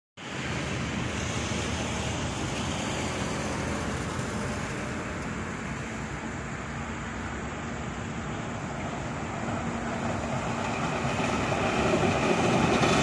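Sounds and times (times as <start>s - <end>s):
distant vehicle noise: 0.2s - 13.0s.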